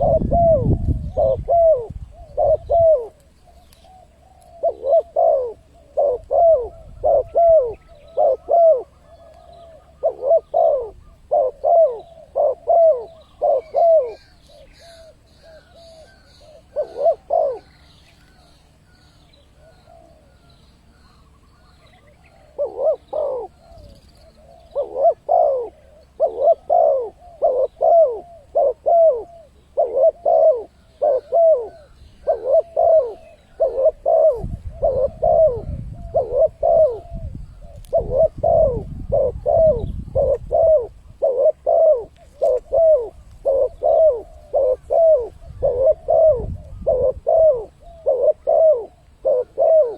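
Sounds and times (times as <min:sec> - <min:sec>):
dove cooing: 0:00.0 - 0:49.9
small birds chirping: 0:00.0 - 0:49.9.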